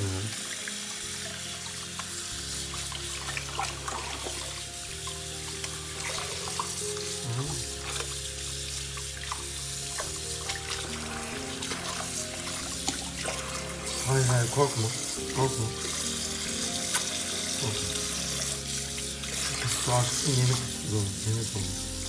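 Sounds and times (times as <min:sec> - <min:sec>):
background music with held chords: 0:00.0 - 0:22.0
tap water running into sink: 0:00.0 - 0:22.0.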